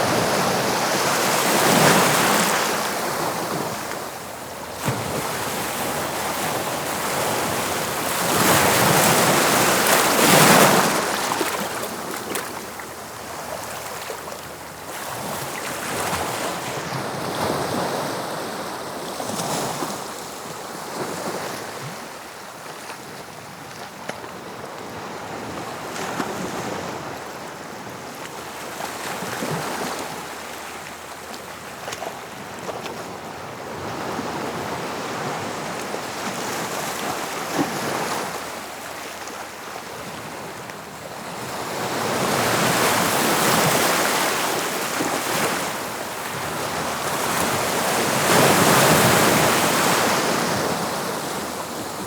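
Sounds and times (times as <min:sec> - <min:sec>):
sea waves breaking on shore: 0:00.0 - 0:24.0, 0:25.0 - 0:52.0.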